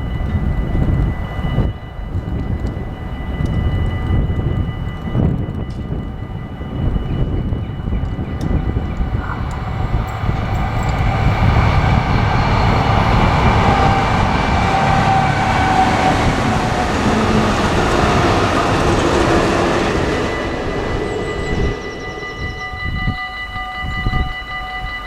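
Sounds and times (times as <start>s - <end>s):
train rumbling past: 0.0s - 24.6s
faint thin whining tones: 0.0s - 25.0s.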